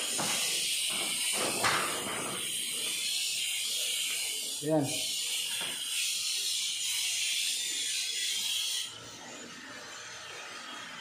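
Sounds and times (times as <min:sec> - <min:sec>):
air spray gun hissing: 0:00.0 - 0:08.9.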